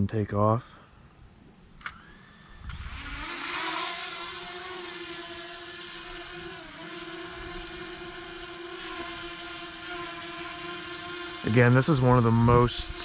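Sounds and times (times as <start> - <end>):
drone propeller whine: 1.8 - 13.0.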